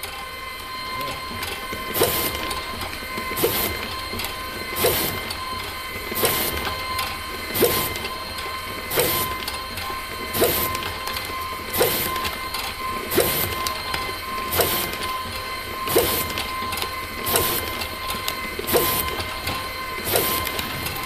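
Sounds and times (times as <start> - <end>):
machine motor hum with whine: 0.0 - 21.0
sharp machine clack: 1.0 - 21.0.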